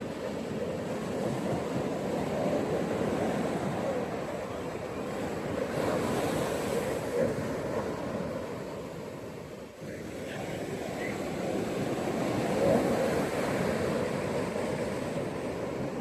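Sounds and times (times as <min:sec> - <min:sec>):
ocean surf washing onto beach: 0:00.0 - 0:16.0.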